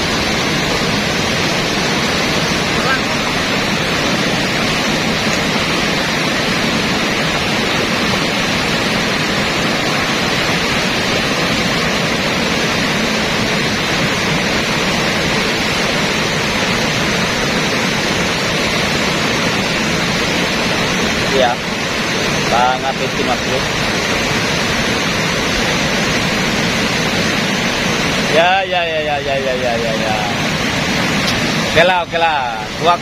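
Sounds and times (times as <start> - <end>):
river rapids rushing: 0.0 - 33.0.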